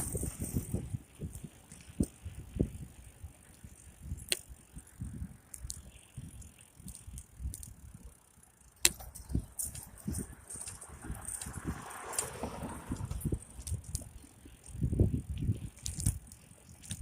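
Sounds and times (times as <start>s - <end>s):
bicycle bumps and rattles: 0.0s - 17.0s
sharp bicycle clicks: 0.0s - 17.0s.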